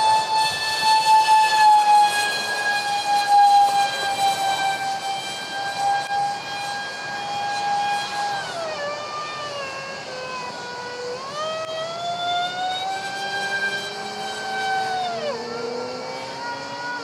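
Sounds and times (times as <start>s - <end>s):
electric ducted fans screeching: 0.0s - 17.0s.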